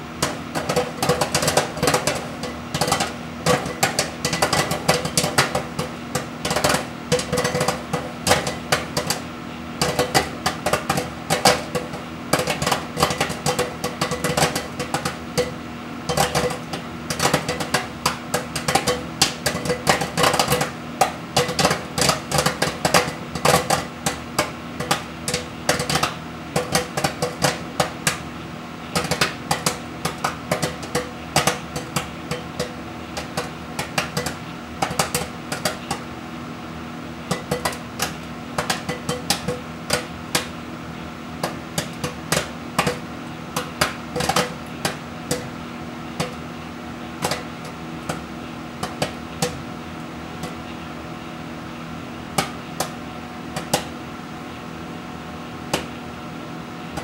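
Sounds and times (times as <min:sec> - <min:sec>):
microwave oven hum: 0:00.0 - 0:57.0
popcorn popping: 0:00.0 - 0:57.0.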